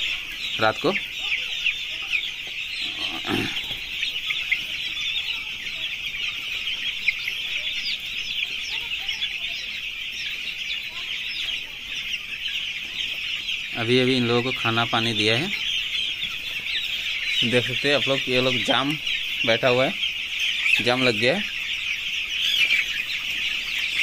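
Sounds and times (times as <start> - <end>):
chicks peeping: 0.0 - 24.0.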